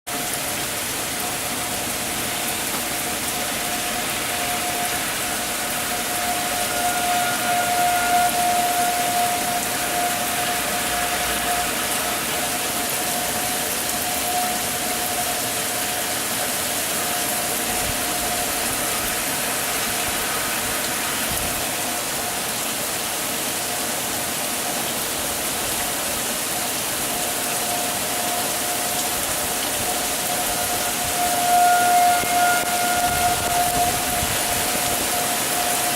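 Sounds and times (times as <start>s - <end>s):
distant warning siren: 0.1s - 35.9s
heavy rain pouring: 0.1s - 35.9s.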